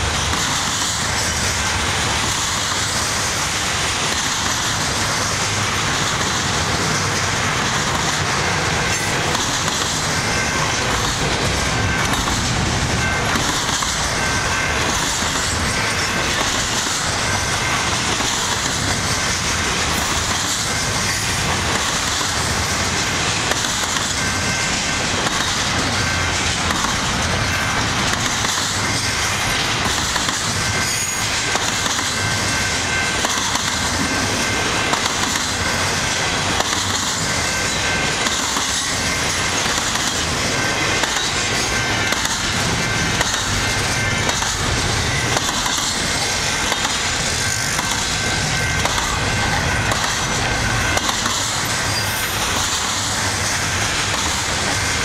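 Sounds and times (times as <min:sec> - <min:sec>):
freight train wheels clattering: 0:00.0 - 0:55.0
crossing warning bell ringing: 0:01.0 - 0:55.0.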